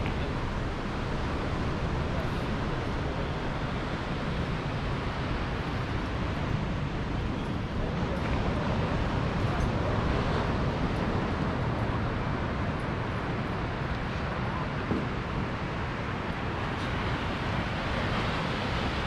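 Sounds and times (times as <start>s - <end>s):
distant surf: 0.0s - 19.0s.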